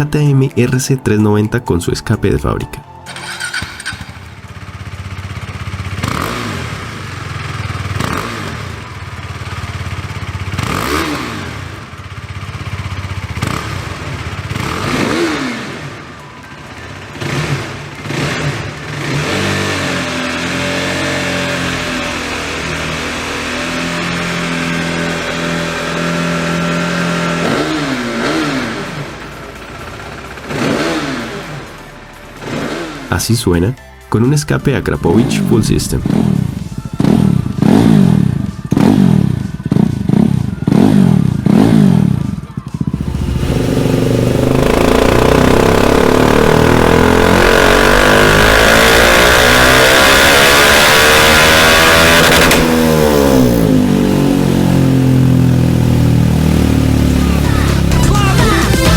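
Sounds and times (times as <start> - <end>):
motorcycle engine revving: 3.0 - 58.9.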